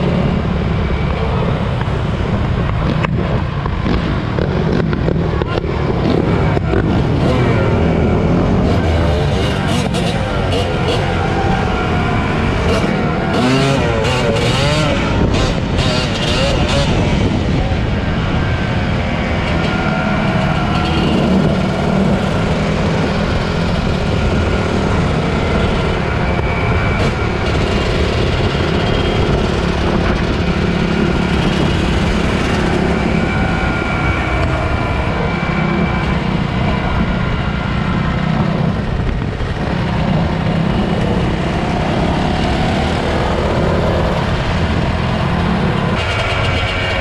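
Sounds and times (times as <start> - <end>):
heavy low rumble: 0.0 - 47.0.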